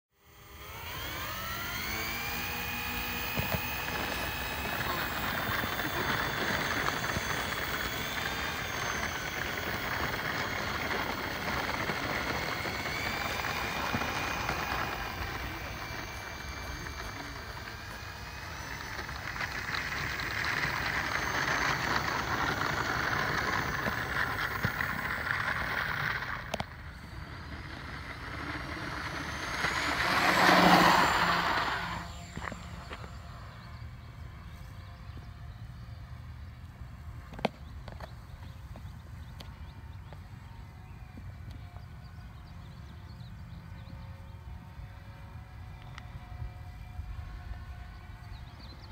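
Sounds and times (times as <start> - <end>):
model plane propellers whining: 0.1 - 48.9.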